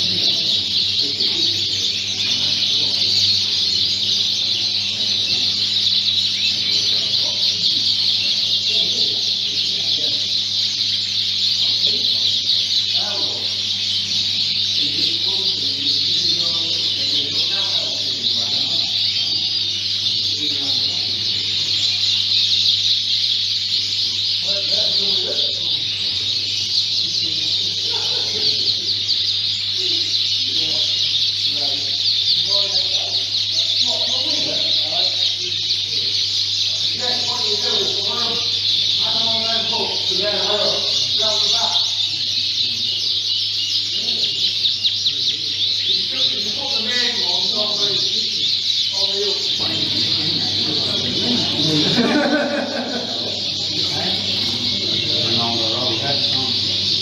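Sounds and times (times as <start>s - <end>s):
canaries chirping and singing: 0.0s - 57.0s
faint voices: 0.0s - 57.0s.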